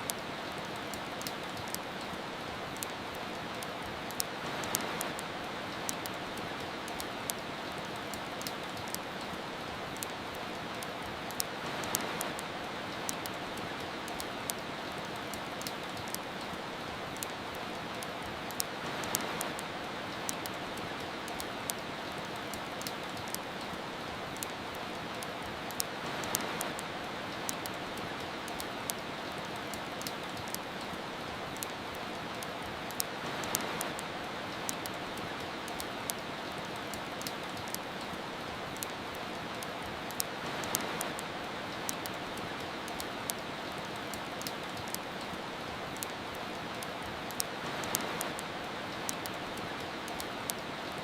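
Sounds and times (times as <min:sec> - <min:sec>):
steady rain: 0:00.0 - 0:51.0
wood fire crackling: 0:00.0 - 0:51.0.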